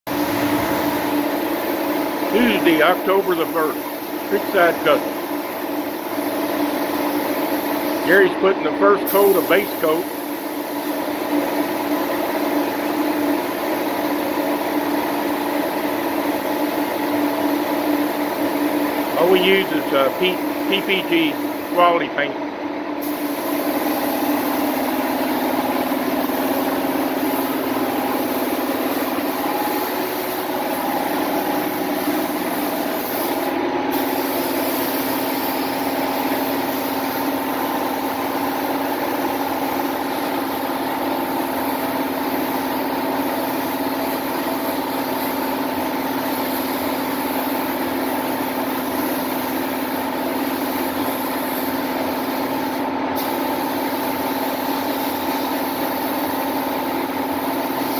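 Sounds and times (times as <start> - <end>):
paint spray gun hissing: 0.1 - 22.1, 23.0 - 57.9.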